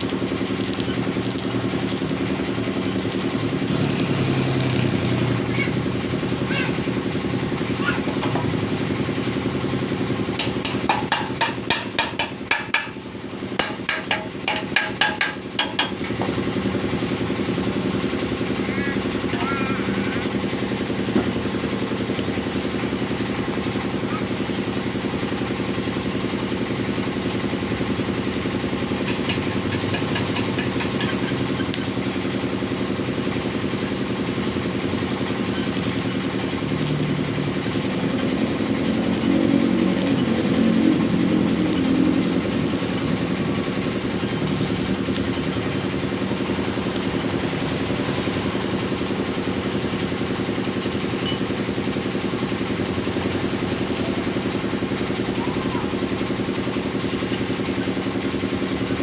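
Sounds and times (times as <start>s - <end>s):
van engine idling: 0.0s - 10.4s, 16.2s - 59.0s.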